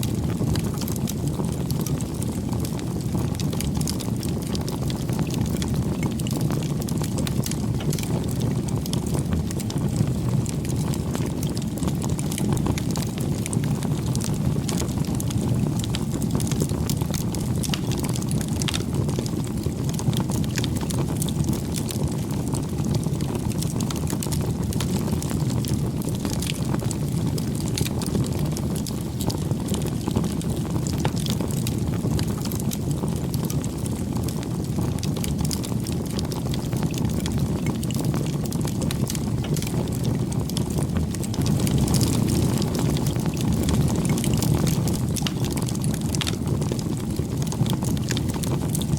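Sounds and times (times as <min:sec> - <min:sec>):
wood crackling and popping: 0:00.0 - 0:48.9
flames rushing: 0:00.1 - 0:48.9.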